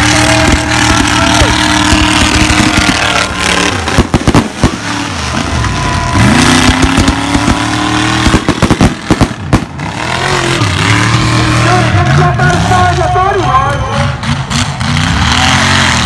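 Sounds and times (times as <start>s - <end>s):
truck engine revving high: 0.0s - 16.0s.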